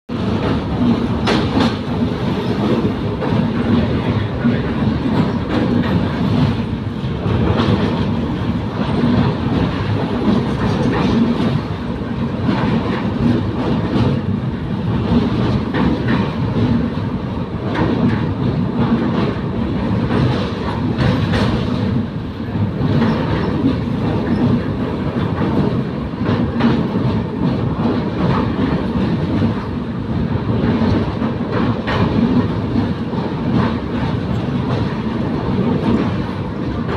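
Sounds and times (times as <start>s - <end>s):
train rumbling over bridge: 0.1s - 36.9s
wheels clicking over rail joints: 0.1s - 36.9s.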